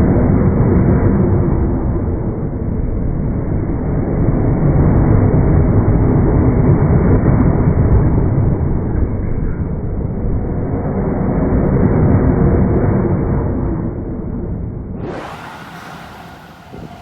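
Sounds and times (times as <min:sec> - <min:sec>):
deep rumble of passing train: 0:00.2 - 0:17.0.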